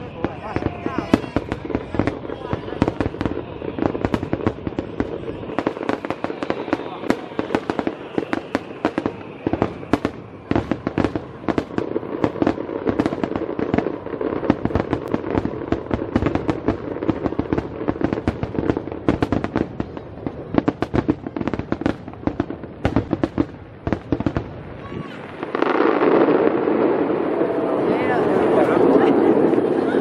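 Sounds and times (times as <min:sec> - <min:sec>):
fireworks popping and banging: 0:00.0 - 0:30.0.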